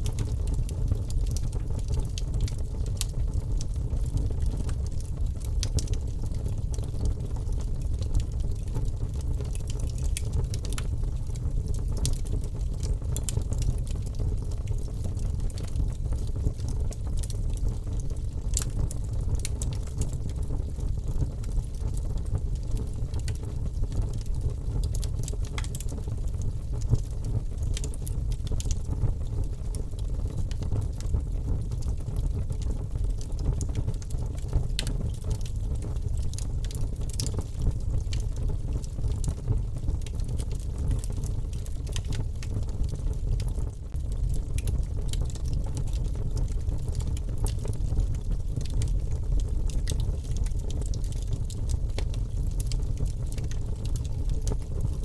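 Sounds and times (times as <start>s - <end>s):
fire pops and snaps: 0.0s - 55.0s
low rumble of flames: 0.0s - 55.0s
wood fire crackling: 0.0s - 55.0s.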